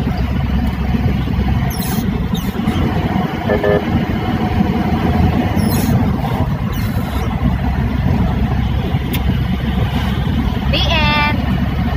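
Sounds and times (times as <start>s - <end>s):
vehicle road and engine rumble: 0.0s - 11.9s.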